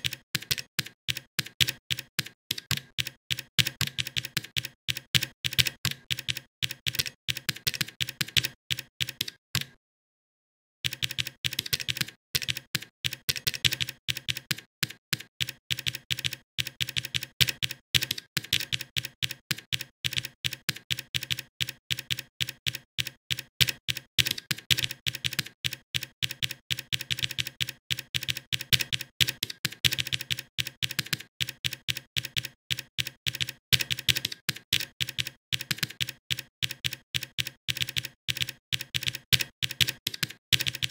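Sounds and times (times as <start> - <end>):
computer keyboard typing: 0.0 - 9.8, 10.8 - 40.9.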